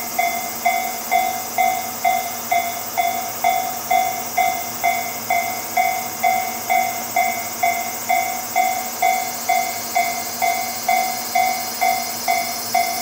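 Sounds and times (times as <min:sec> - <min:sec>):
railroad crossing bell ringing: 0:00.0 - 0:13.0
steady high hiss: 0:00.0 - 0:13.0.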